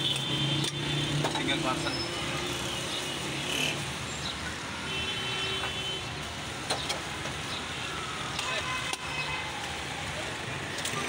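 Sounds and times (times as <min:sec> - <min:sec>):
busy street traffic: 0:00.0 - 0:11.0.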